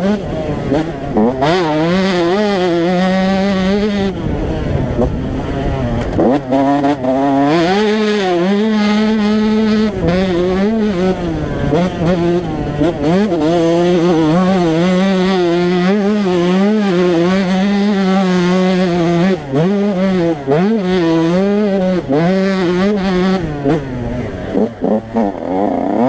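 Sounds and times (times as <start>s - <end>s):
two-stroke motorcycle engine revving: 0.0s - 26.0s.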